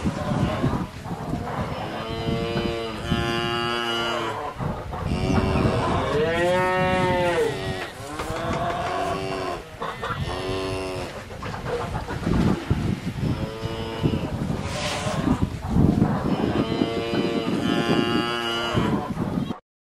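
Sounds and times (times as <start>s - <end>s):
cows mooing: 0.0s - 11.2s, 13.2s - 15.5s, 16.2s - 19.2s.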